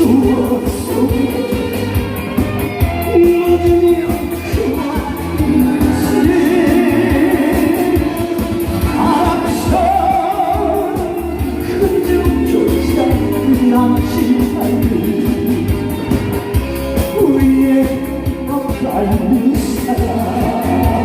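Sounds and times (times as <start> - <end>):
man singing through sound system: 0.0 - 16.1, 16.8 - 21.0
instrumental accompaniment with beat: 0.0 - 21.0.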